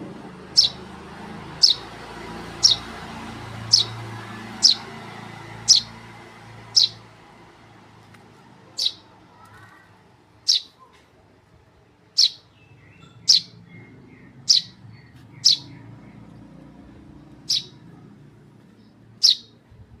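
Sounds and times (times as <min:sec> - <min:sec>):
sparrow chirping: 0:00.0 - 0:07.7, 0:08.6 - 0:09.8, 0:10.4 - 0:11.0, 0:12.0 - 0:19.6.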